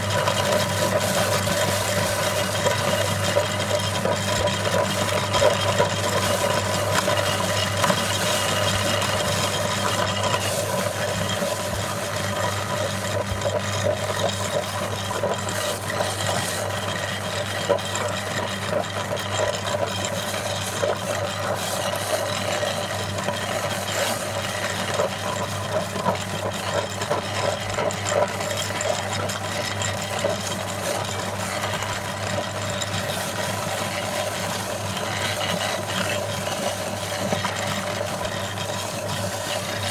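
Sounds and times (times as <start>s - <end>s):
meat grinder motor hum: 0.0s - 39.9s.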